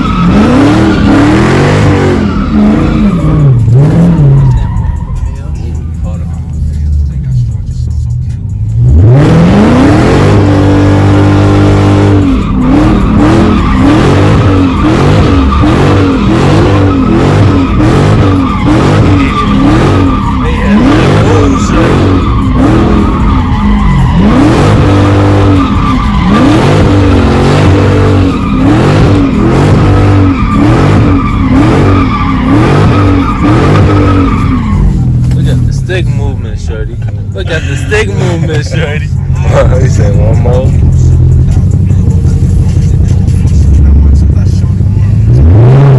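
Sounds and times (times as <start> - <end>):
tyres squealing and skidding: 0.0 - 7.6, 8.7 - 45.9
car engine revving high: 0.0 - 8.0, 8.6 - 45.9.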